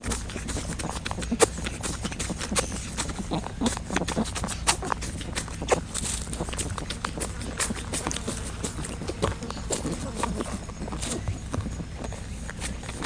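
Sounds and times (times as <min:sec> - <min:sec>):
rabbit sneezing: 0:00.0 - 0:11.9
rabbit clicks and snuffles: 0:00.0 - 0:13.0.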